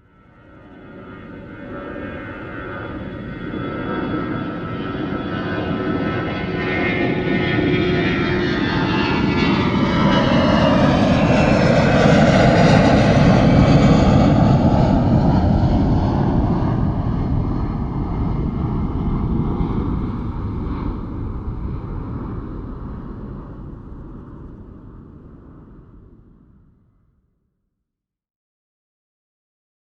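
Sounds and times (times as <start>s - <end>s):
jet airplane passing overhead: 0.1s - 26.7s.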